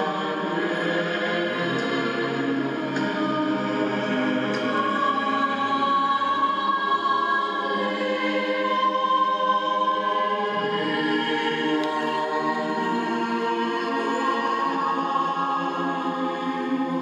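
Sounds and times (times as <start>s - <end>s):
choir singing slowly: 0.0s - 17.0s.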